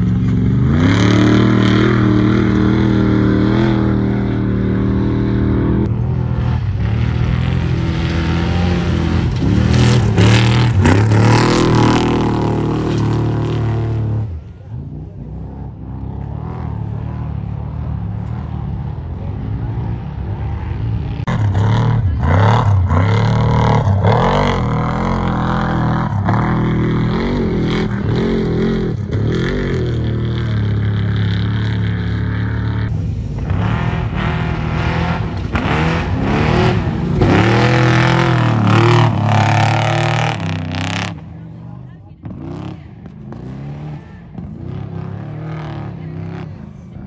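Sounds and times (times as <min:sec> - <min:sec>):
truck engines revving: 0:00.0 - 0:47.0.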